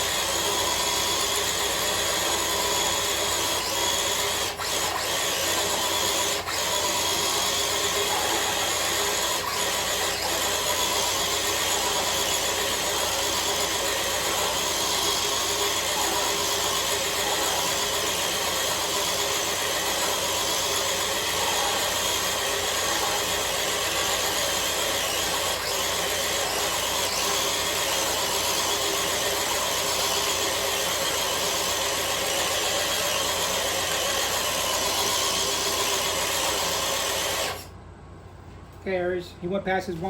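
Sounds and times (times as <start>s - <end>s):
electric motor and gearbox whining: 0.0s - 37.7s.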